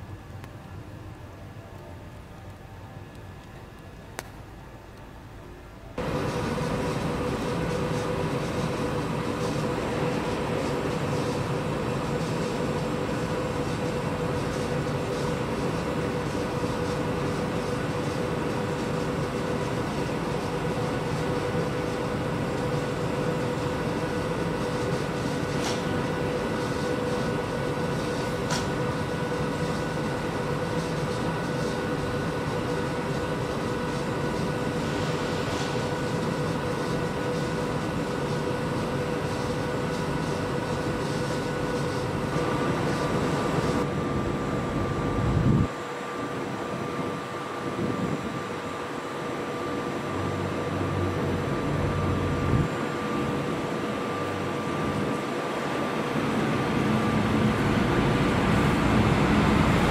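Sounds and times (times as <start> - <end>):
train rumbling with whine: 0.0 - 59.9.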